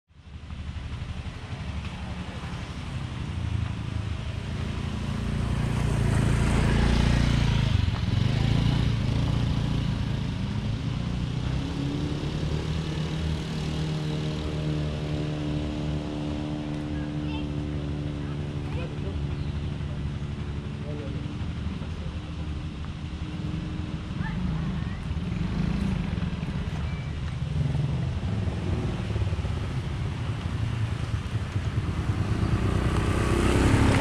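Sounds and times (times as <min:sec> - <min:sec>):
steady engine hum: 0:00.1 - 0:34.0
motorcycle passing by: 0:00.2 - 0:34.0.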